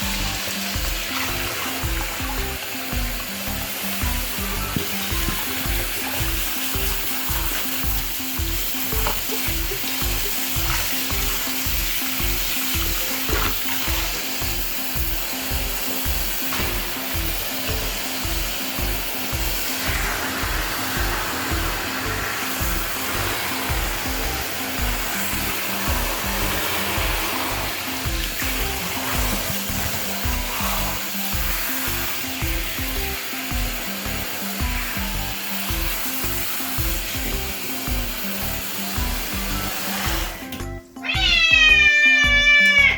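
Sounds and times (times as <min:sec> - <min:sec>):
steady hiss: 0:00.0 - 0:40.5
music with steady beat: 0:00.0 - 0:42.9.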